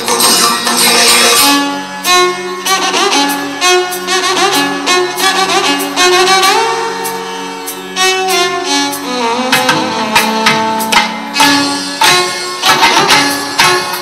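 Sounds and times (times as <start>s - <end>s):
bowed violin-like melody: 0.0s - 14.0s.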